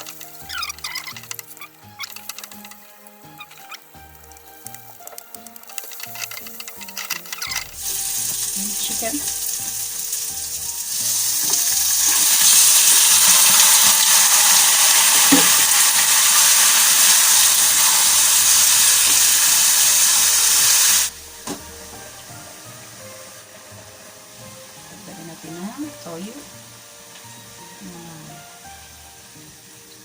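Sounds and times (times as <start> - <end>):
chicken sizzling in frying pan: 0.0 - 30.0.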